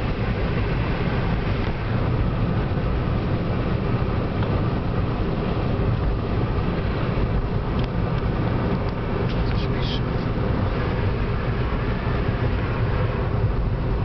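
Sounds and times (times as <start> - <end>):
car road noise: 0.0 - 14.0.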